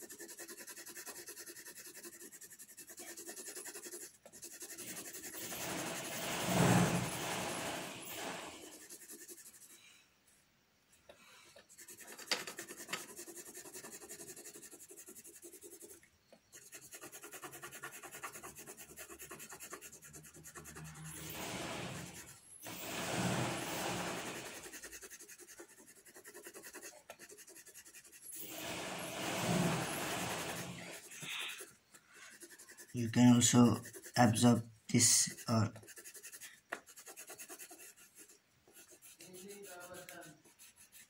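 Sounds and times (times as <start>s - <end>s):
pencil shading on paper: 0.0s - 9.8s, 11.6s - 41.0s.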